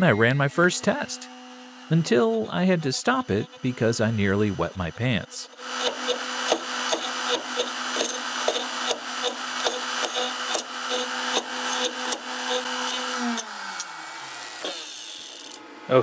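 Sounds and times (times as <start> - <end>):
router spindle humming: 0.0 - 16.0.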